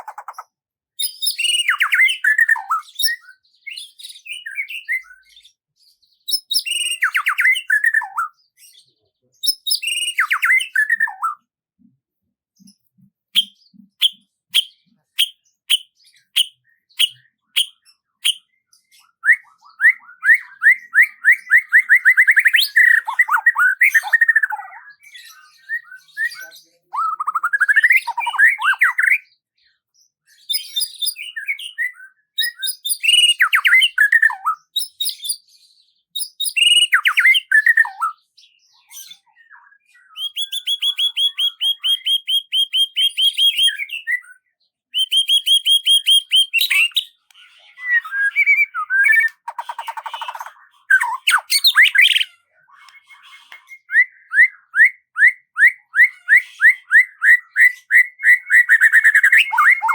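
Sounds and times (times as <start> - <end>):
songbird singing: 0.0 - 5.6, 6.2 - 11.9, 12.6 - 29.5, 30.4 - 35.5, 36.1 - 59.9.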